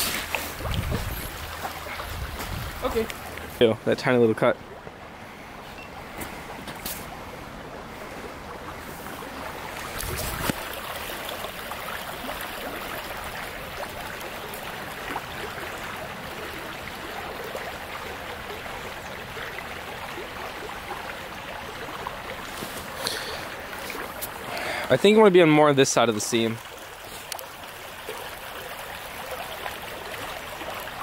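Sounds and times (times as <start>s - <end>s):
creek water rushing: 0.0s - 31.0s.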